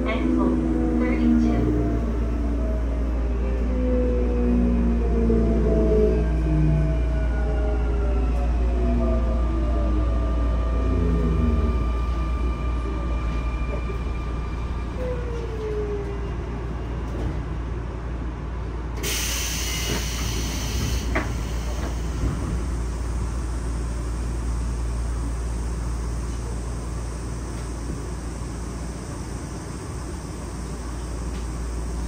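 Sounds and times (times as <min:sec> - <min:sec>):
train inverter whine: 0:00.0 - 0:32.0
train wheels rumbling on rails: 0:04.7 - 0:32.0.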